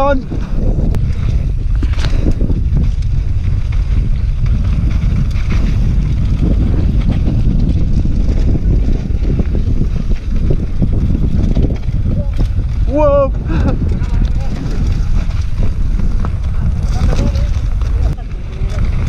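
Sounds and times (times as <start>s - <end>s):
wind buffeting microphone: 0.0s - 19.0s
bike knocks and rattles: 0.8s - 19.0s.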